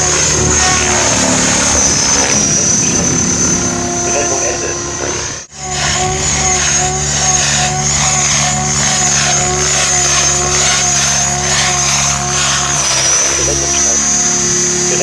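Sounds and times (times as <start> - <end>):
rc helicopter motor whine: 0.0 - 15.0
rotor blades swishing: 0.0 - 15.0.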